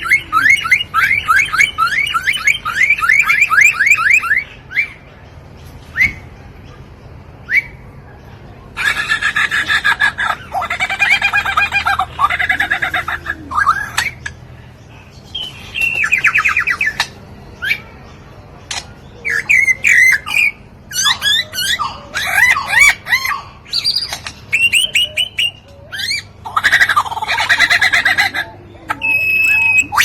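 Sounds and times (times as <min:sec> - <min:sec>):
lyrebird singing mimicked calls: 0:00.0 - 0:05.1, 0:08.8 - 0:18.1, 0:18.7 - 0:30.0.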